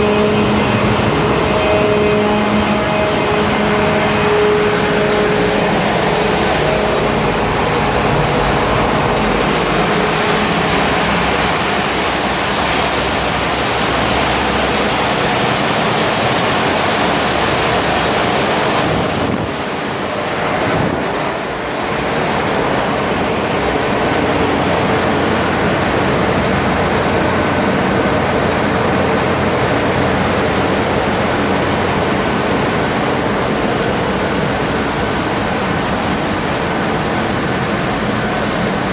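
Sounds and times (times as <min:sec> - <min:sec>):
engine room machinery din: 0:00.0 - 0:38.9.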